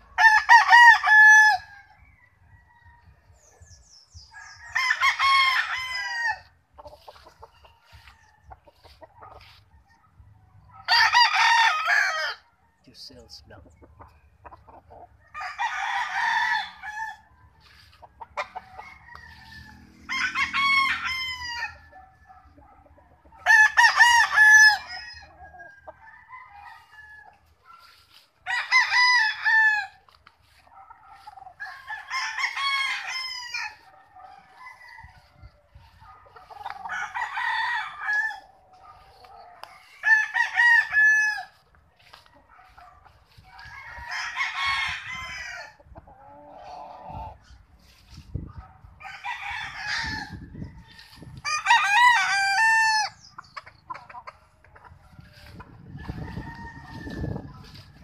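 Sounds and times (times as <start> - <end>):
roosters crowing: 0.0 - 58.0.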